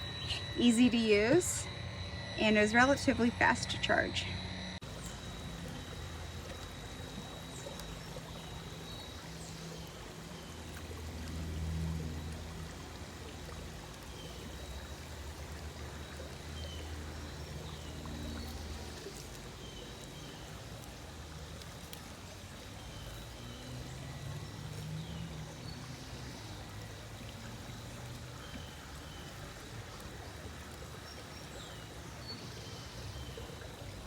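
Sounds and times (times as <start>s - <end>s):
faint high whine: 0.0s - 34.0s
pool vacuum motor hum: 0.0s - 34.0s.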